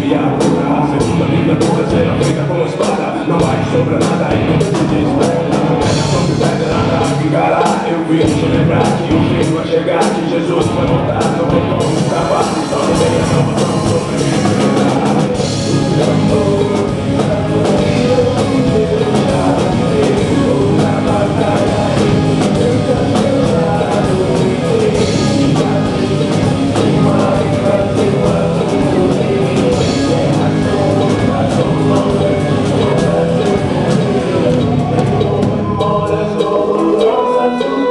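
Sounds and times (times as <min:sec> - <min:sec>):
drum kit playing: 0:00.0 - 0:37.9
loud rock music with guitar: 0:00.0 - 0:37.9.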